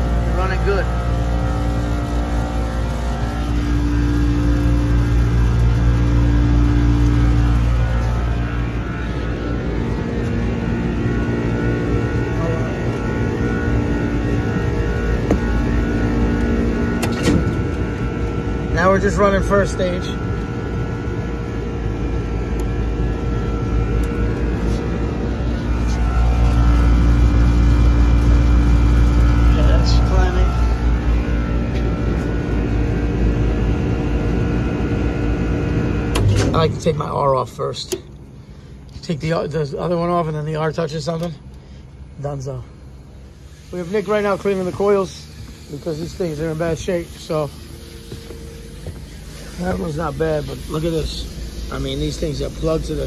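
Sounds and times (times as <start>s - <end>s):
steady high tone: 0.0s - 37.7s, 42.2s - 53.0s
condensing unit low hum: 0.0s - 53.0s.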